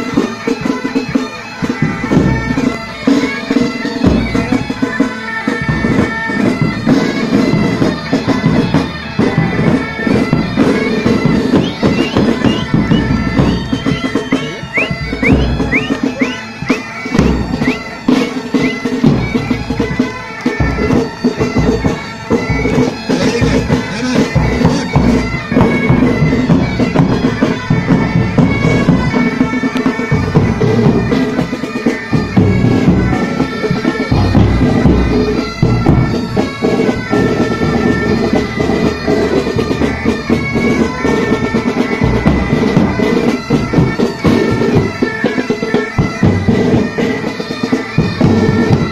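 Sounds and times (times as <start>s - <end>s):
bagpipes playing over drones: 0.0s - 48.9s
side and tenor drums beating: 0.0s - 48.9s.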